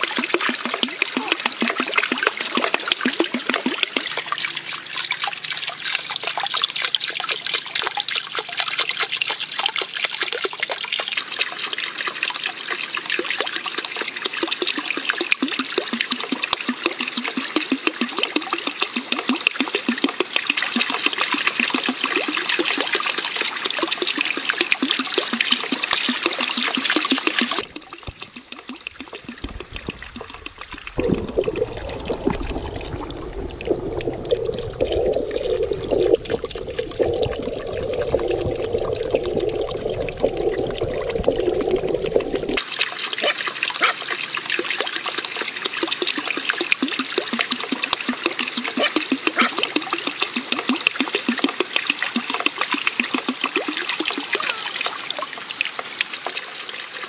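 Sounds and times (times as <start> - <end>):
muffled underwater water sound: 0.0 - 57.0
water trickling and splashing: 0.0 - 57.0.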